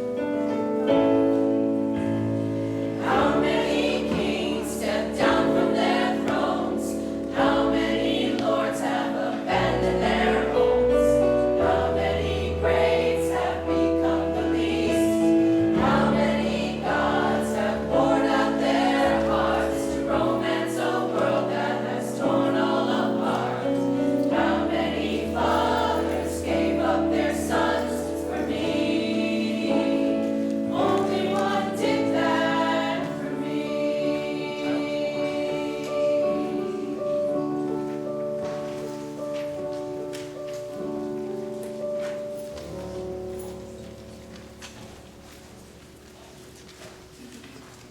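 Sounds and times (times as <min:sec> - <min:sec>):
choir singing: 0:00.0 - 0:38.4.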